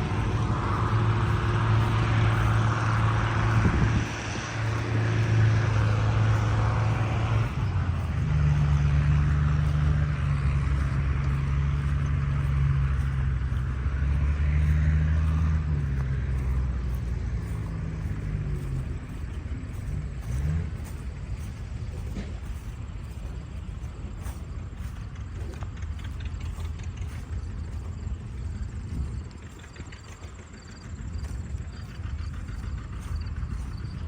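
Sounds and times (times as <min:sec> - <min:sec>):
large engine running: 0:00.0 - 0:34.0.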